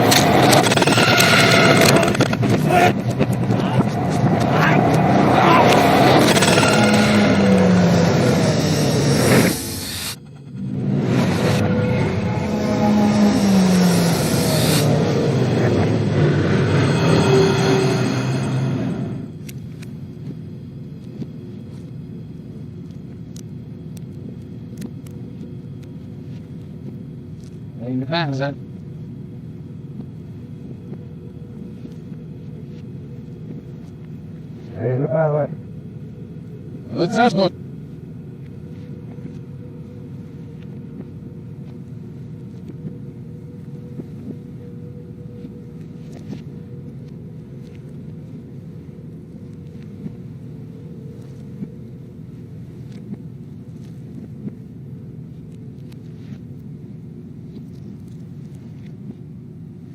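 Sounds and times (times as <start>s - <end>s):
low rumble: 0.0s - 27.8s, 28.6s - 59.9s
held hum: 0.0s - 59.9s.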